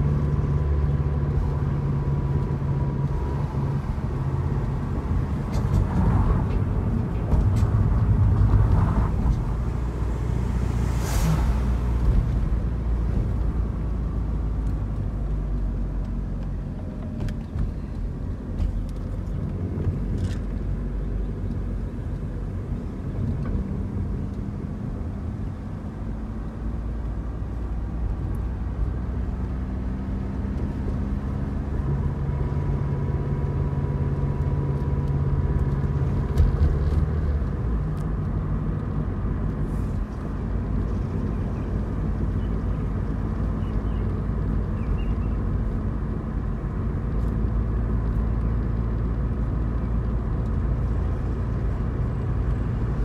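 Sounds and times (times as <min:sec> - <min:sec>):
car engine from inside cabin: 0:00.0 - 0:53.0.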